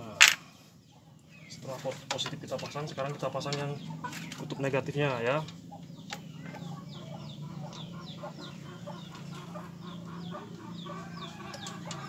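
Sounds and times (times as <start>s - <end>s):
chickens clucking: 0.0s - 12.0s
steady low hum: 0.0s - 12.0s.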